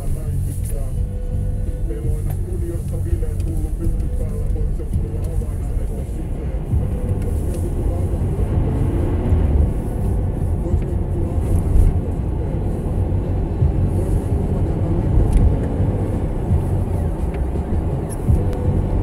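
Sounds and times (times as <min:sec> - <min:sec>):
car driving on slushy road: 0:00.0 - 0:19.0.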